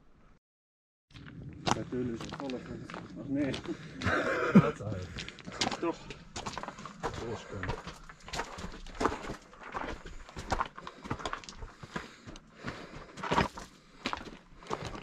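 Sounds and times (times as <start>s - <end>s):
crunching footsteps on a trail: 1.1s - 15.0s.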